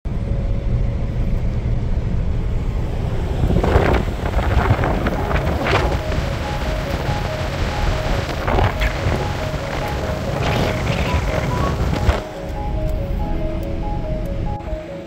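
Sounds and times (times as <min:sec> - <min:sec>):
vehicle driving on sand: 0:00.1 - 0:15.0
wind buffeting microphone: 0:02.2 - 0:14.6.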